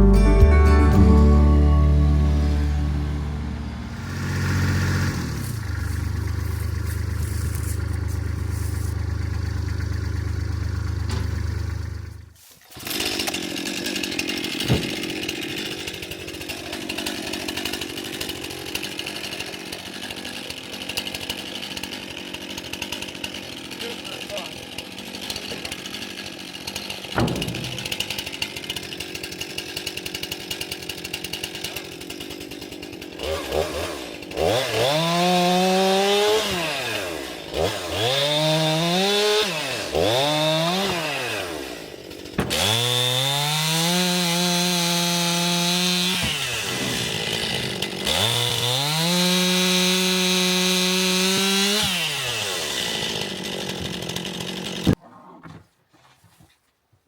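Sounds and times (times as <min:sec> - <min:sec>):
chainsaw cutting wood: 0:01.0 - 0:55.0
chainsaw revving: 0:01.2 - 0:55.0.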